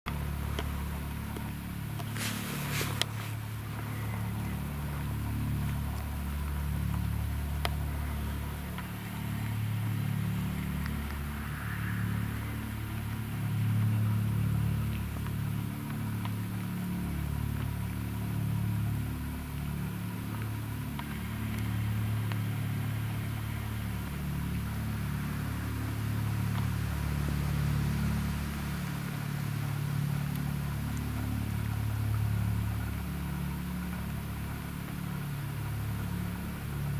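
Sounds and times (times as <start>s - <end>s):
distant helicopter rotor rumble: 0.1s - 36.9s.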